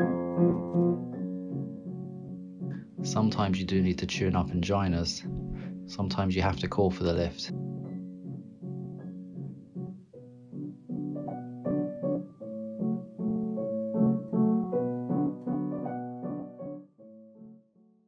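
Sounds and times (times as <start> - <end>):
piano music: 0.0 - 17.6.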